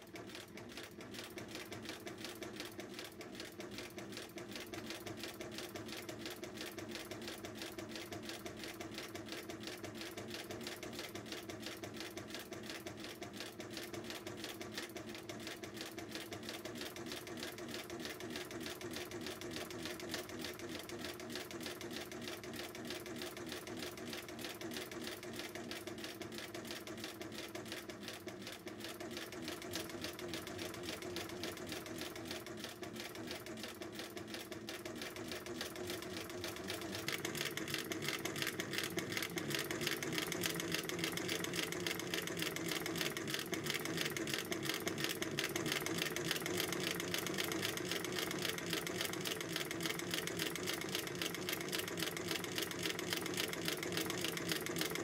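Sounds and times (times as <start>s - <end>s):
sewing machine clattering: 0.0s - 55.0s.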